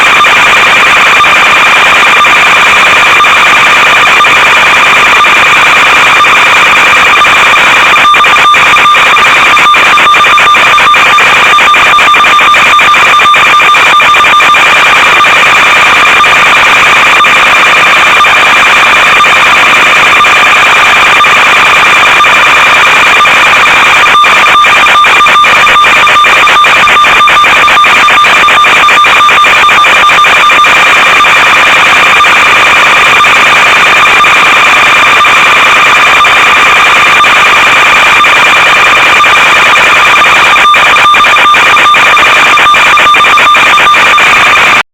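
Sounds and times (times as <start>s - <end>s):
dense crackling clicks: 0.0s - 44.8s.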